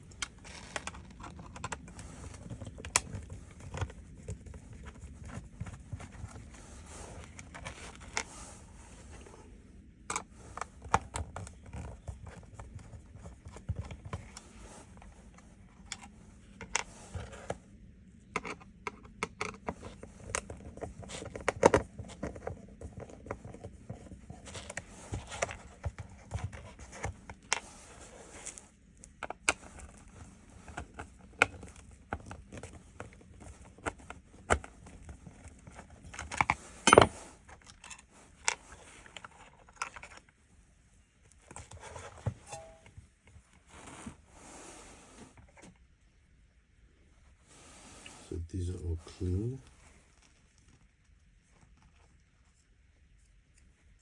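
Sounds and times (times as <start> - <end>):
low steady hum: 0.0 - 43.5.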